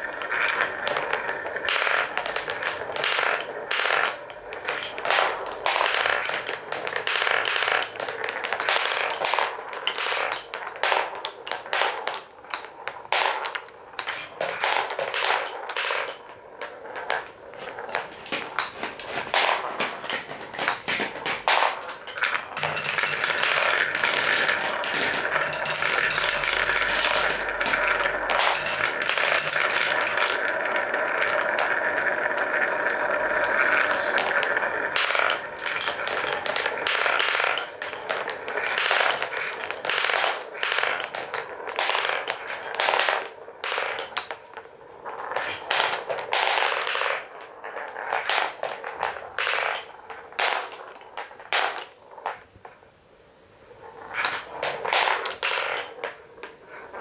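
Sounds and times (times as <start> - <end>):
balls rolling in wooden bowl: 0.0 - 57.0
wooden balls clacking on blocks: 0.0 - 57.0.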